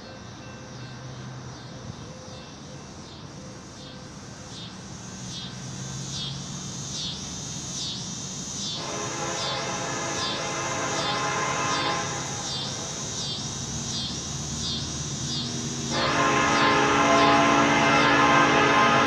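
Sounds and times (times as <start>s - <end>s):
insects buzzing in chorus: 0.0s - 19.0s.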